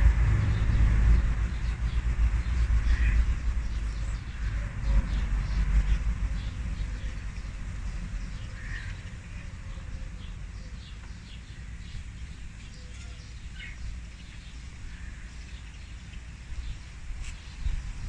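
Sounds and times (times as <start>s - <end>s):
wind rumble on microphone: 0.0s - 18.0s
small birds chirping: 0.4s - 18.0s.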